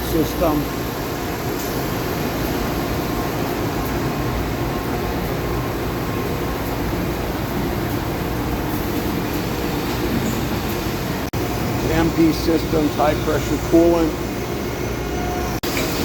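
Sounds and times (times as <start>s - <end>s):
lathe machine hum and hiss: 0.0s - 16.0s.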